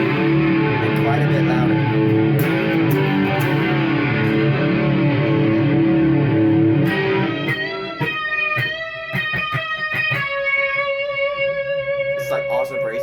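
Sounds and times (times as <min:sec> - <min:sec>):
electric guitar riff: 0:00.0 - 0:13.0.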